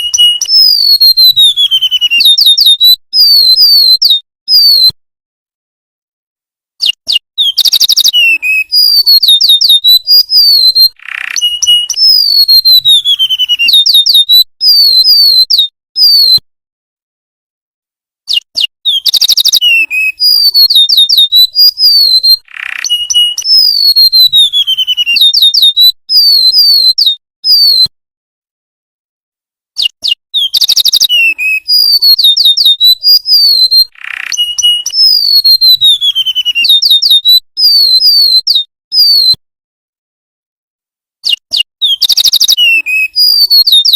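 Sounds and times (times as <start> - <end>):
bird whistled song: 0.0 - 5.0, 6.8 - 16.4, 18.3 - 27.9, 29.8 - 39.4, 41.2 - 43.9.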